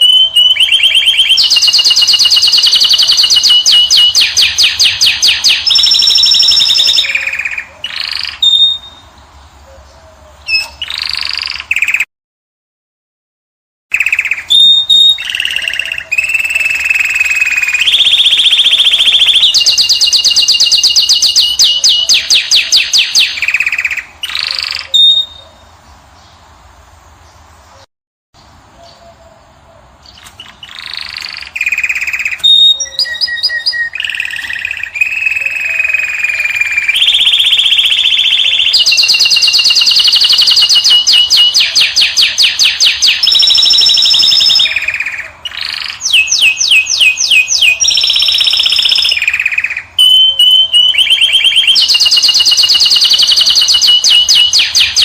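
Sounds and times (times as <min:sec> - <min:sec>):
finch singing trills: 0:00.0 - 0:12.1, 0:13.9 - 0:26.5, 0:27.2 - 0:55.0.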